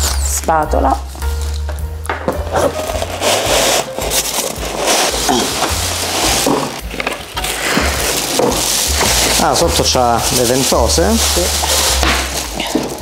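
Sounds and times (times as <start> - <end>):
packaging scraping and knocking: 1.2 - 13.0
plastic bag rustling: 2.4 - 13.0.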